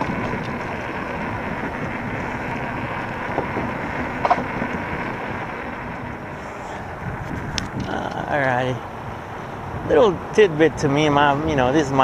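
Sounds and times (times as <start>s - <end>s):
bike tyres rolling on trail: 0.0s - 12.0s
wind buffeting the microphone: 0.0s - 12.0s.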